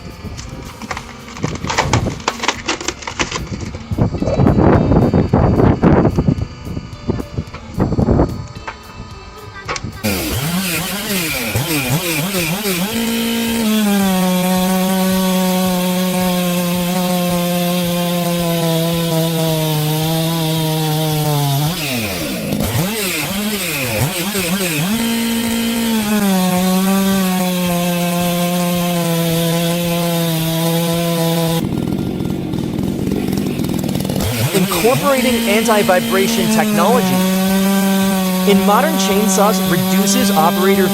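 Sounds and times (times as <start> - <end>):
chainsaw revving: 0.0 - 4.0, 10.0 - 40.9
chainsaw cutting into wood: 0.0 - 4.7, 10.0 - 40.9.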